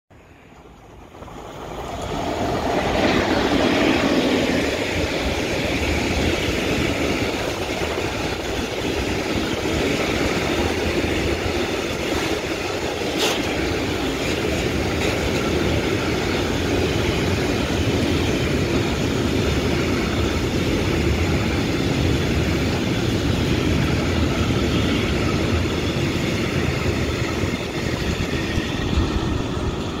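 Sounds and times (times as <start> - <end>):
locomotive passing: 0.2 - 30.0.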